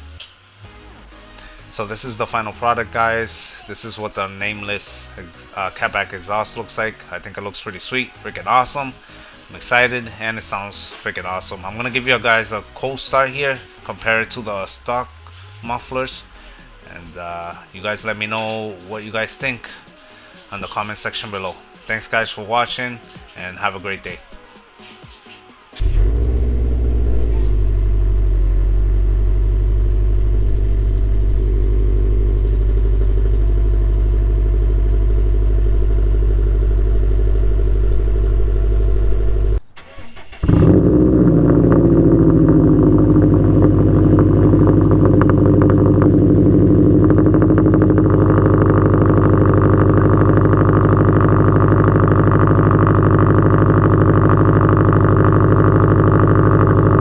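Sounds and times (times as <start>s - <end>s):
car engine idling: 0.0s - 22.1s, 25.8s - 57.0s.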